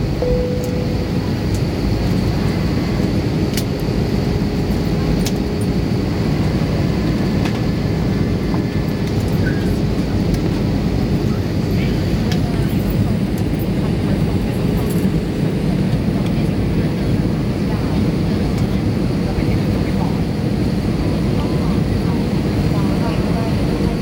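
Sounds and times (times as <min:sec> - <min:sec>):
jet engines and airflow in cabin: 0:00.0 - 0:24.0.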